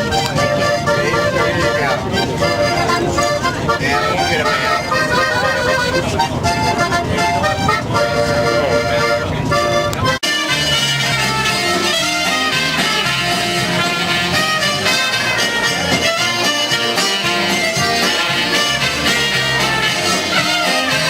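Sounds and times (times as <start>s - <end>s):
accordion music: 0.0s - 21.0s.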